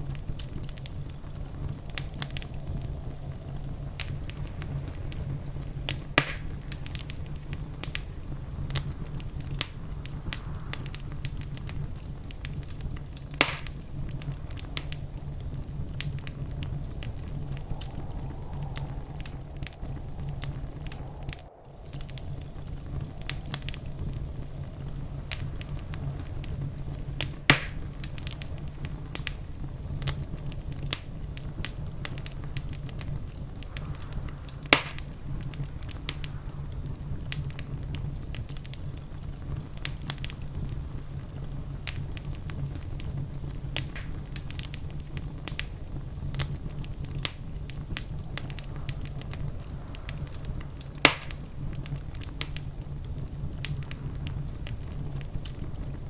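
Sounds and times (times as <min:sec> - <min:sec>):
loud fire snaps: 0:00.0 - 0:56.0
wood fire crackling: 0:00.0 - 0:56.0.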